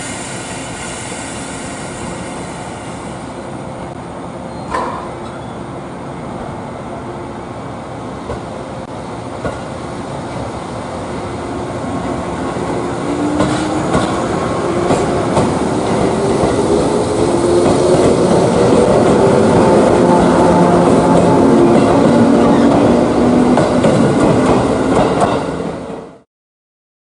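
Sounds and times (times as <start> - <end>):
train running noise: 0.0 - 26.2.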